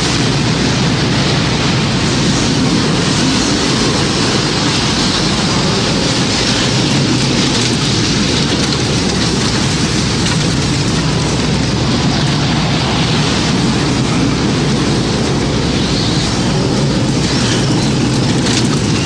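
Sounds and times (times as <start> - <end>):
heavy rain: 0.0 - 19.0
strong wind: 0.0 - 19.0.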